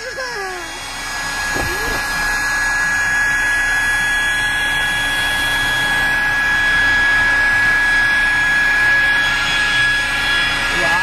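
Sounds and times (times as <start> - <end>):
air mattress pump running: 0.0 - 11.0.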